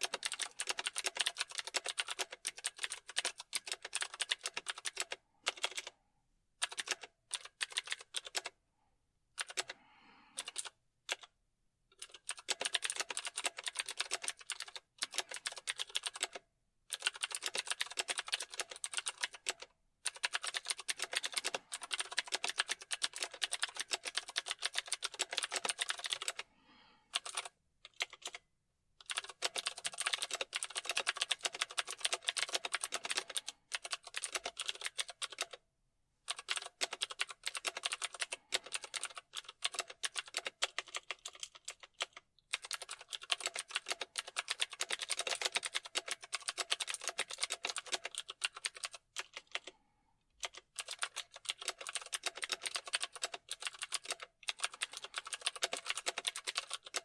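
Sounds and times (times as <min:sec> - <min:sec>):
computer keyboard typing: 0:00.0 - 0:05.9, 0:06.6 - 0:08.6, 0:09.4 - 0:09.8, 0:10.4 - 0:11.3, 0:12.0 - 0:26.4, 0:27.1 - 0:28.4, 0:29.0 - 0:35.6, 0:36.3 - 0:49.8, 0:50.4 - 0:57.0.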